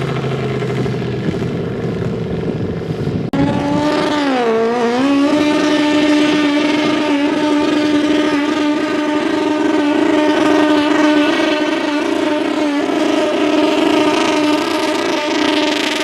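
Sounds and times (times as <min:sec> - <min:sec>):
tractor engine running flat out: 0:00.0 - 0:16.0.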